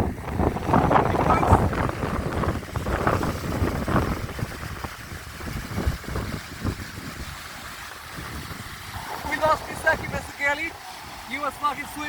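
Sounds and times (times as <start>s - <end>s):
sea wash: 0.0s - 12.0s
wind buffeting microphone: 0.0s - 12.0s.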